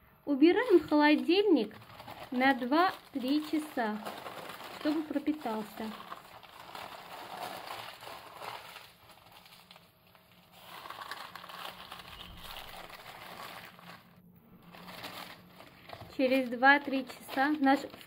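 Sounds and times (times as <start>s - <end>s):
parchment paper rustling: 0.5s - 18.0s.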